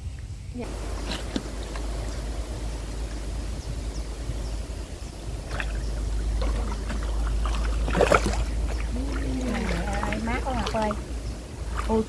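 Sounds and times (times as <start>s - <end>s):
low rumble: 0.0s - 12.0s
water sloshing and splashing: 0.6s - 12.0s.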